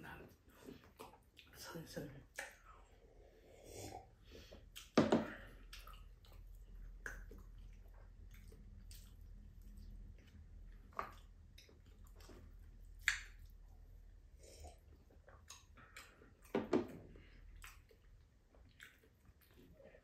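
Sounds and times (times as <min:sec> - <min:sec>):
people chewing: 0:00.1 - 0:20.0.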